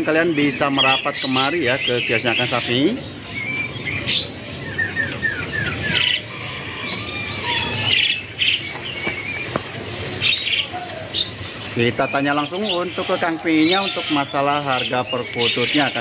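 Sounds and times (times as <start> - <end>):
caged birds chirping: 0.0 - 16.0.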